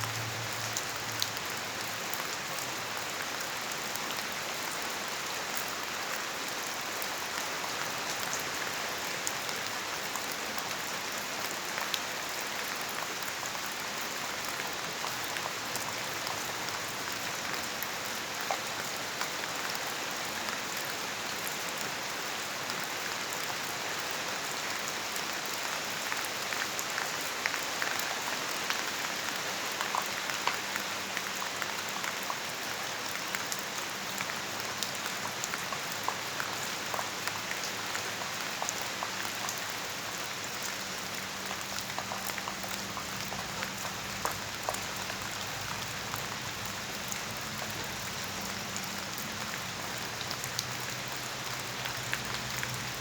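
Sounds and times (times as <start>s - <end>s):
raindrops ticking on a surface: 0.0s - 53.0s
steady rainfall hiss: 0.0s - 53.0s.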